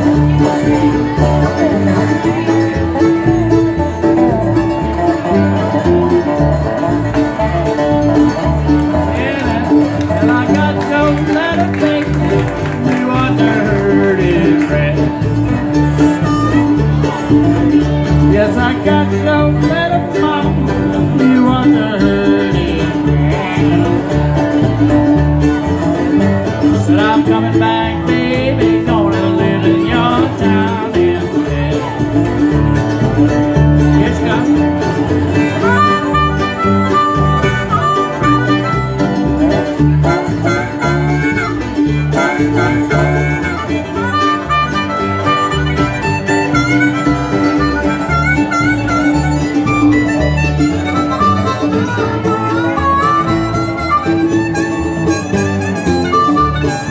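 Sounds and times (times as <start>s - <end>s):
dobro sliding lead notes: 0.0s - 56.9s
strummed acoustic guitar: 0.0s - 56.9s
upright bass: 0.0s - 56.9s.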